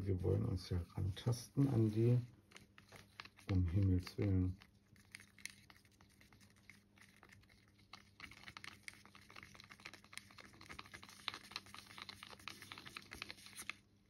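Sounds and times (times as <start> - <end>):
stir stick scraping plastic cup: 0.0 - 13.8.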